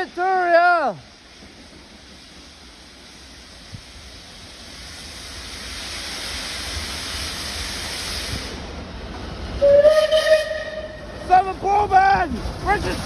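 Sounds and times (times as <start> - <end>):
steam train rushing past: 0.0 - 13.0.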